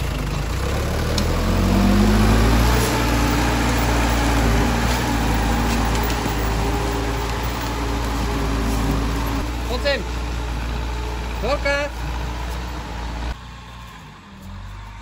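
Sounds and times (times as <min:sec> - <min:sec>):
diesel engine pulling under load: 0:00.0 - 0:15.0
tree dragging across forest floor: 0:01.0 - 0:15.0.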